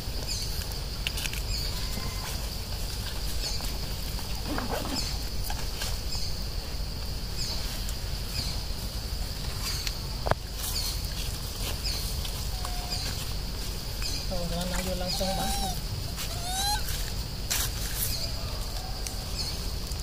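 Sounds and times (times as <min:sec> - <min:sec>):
insect chirping: 0:00.0 - 0:20.0.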